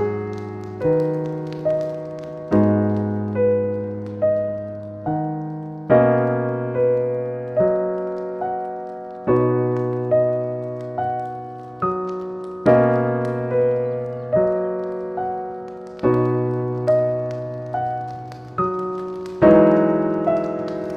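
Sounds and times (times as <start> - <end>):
slow soft piano music: 0.0 - 20.9.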